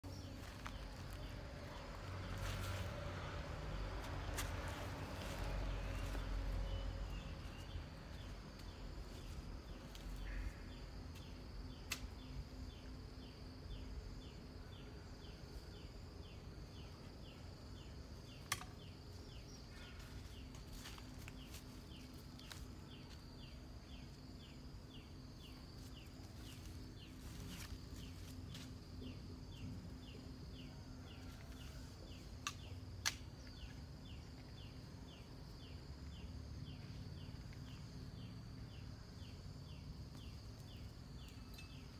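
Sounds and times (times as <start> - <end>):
high insect drone: 0.1 - 41.9.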